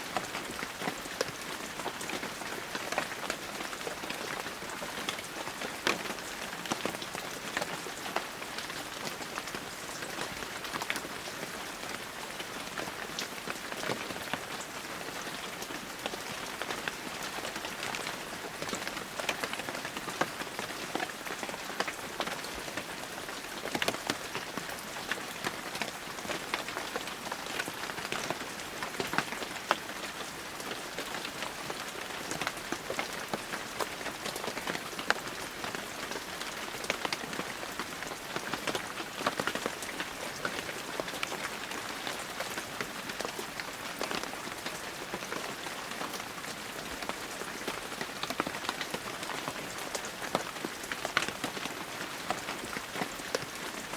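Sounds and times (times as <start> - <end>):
heavy rain falling: 0.0 - 53.9
raindrops striking leaves: 0.0 - 53.9.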